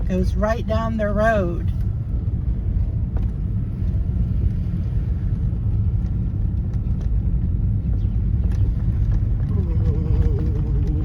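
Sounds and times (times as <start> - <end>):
car engine rumble: 0.0 - 11.0
tyres on road: 0.0 - 11.0.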